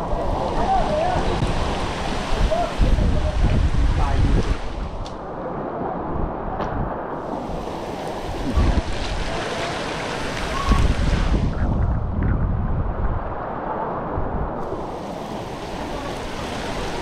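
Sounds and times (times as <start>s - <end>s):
water rushing: 0.0s - 11.7s, 13.1s - 17.0s
wind gusting on microphone: 0.0s - 17.0s.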